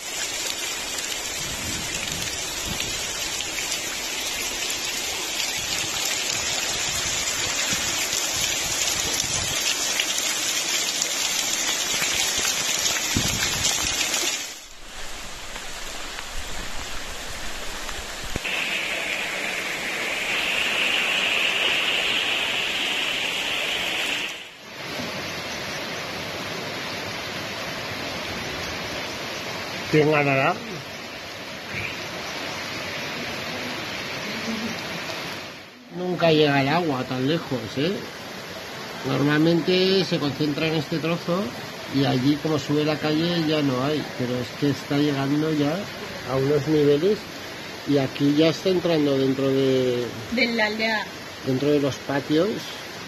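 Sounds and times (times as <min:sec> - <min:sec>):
rushing floodwater hiss: 0:00.0 - 0:53.0.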